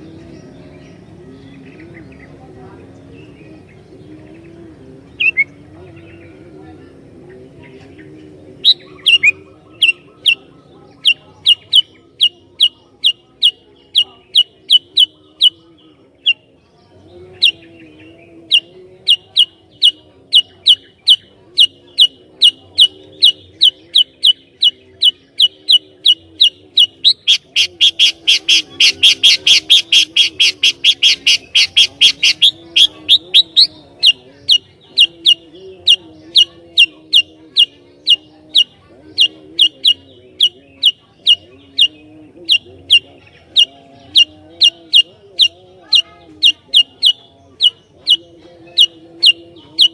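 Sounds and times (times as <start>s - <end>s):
bird chirping: 0.0s - 49.9s.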